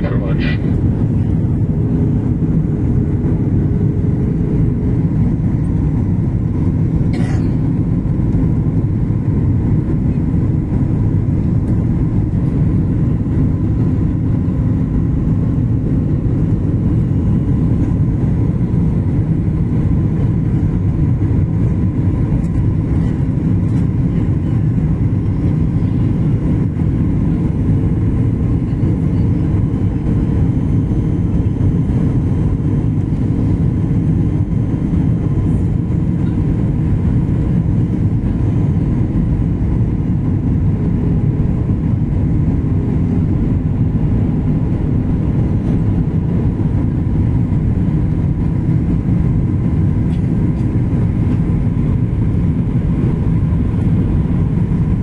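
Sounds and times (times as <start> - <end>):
jet engine and airflow noise: 0.0 - 55.0.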